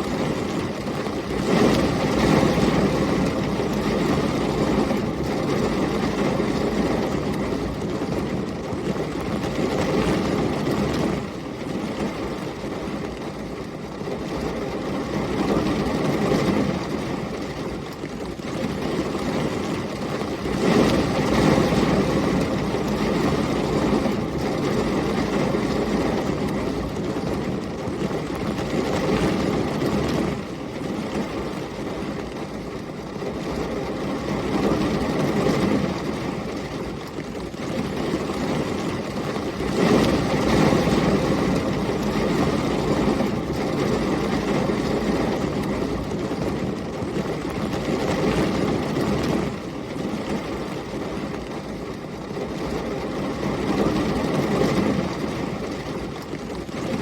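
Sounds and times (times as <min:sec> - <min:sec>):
heavy rain: 0:00.0 - 0:57.0
storm wind: 0:00.0 - 0:57.0.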